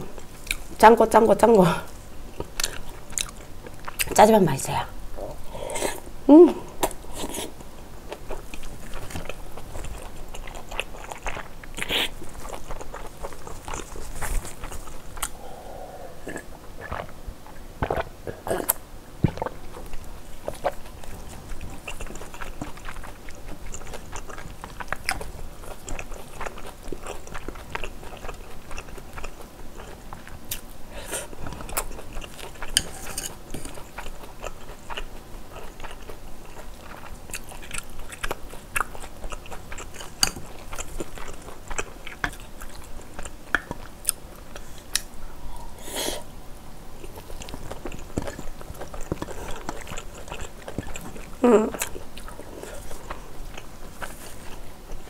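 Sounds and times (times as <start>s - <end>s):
person chewing food: 0.0s - 0.8s, 2.3s - 4.2s, 6.8s - 46.4s, 47.0s - 55.0s.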